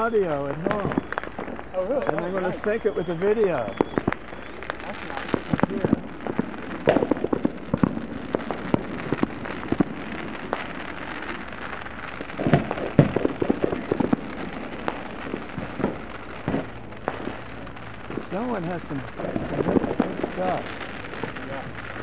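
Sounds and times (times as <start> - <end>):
fireworks and firecrackers banging: 0.0 - 22.0.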